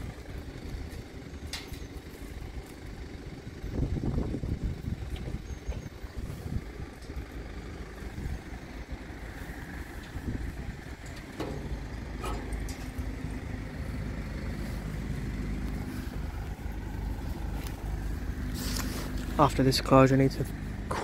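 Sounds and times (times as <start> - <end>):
low outdoor rumble: 0.0 - 21.0
motor engine humming: 0.0 - 21.0.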